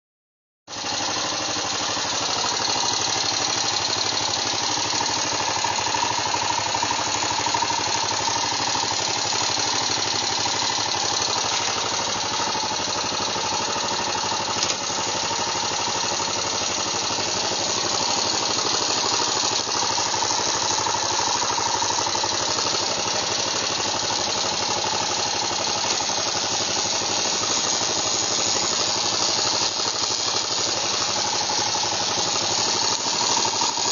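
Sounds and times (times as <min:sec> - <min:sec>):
motorcycle engine running: 0:00.7 - 0:33.9.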